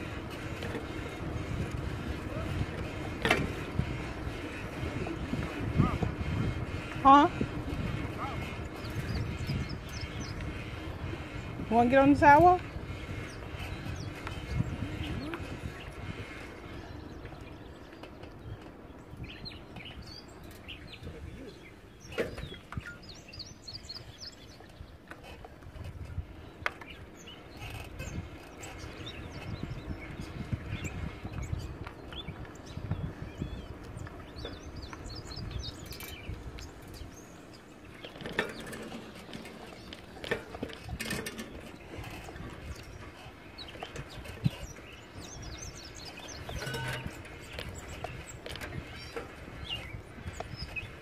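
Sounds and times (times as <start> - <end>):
bicycle tyres rolling on asphalt: 0.0 - 51.0
birds chirping: 0.0 - 51.0.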